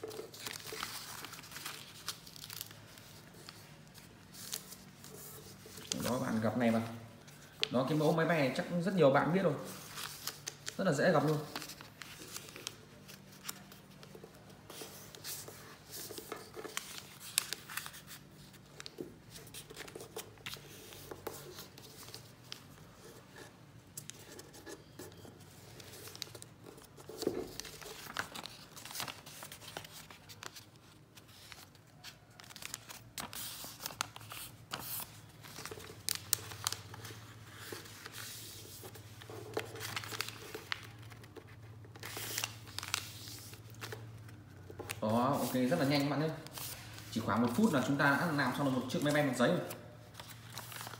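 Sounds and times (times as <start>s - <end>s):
crisp paper crackles: 0.0s - 8.0s, 8.6s - 23.0s, 24.0s - 50.9s
paper rustling and crinkling: 0.0s - 50.9s.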